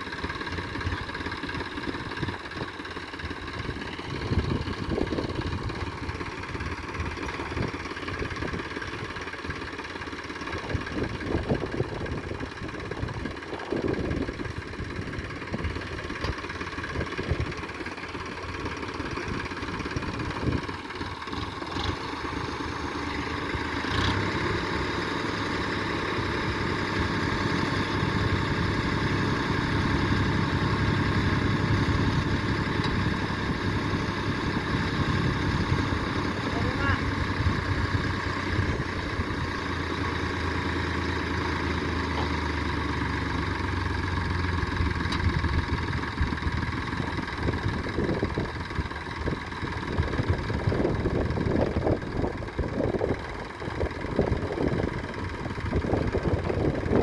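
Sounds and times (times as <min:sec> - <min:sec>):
machinery engine running: 0:00.0 - 0:57.0.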